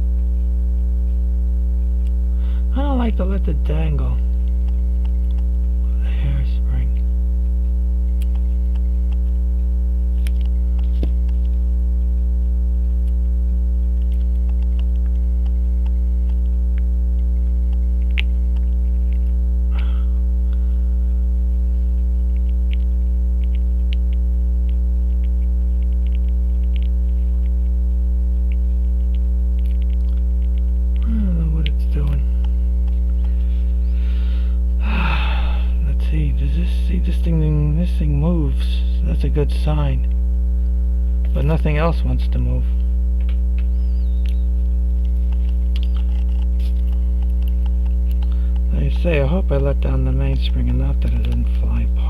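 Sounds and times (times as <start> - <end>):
electrical mains hum: 0.0 - 52.0.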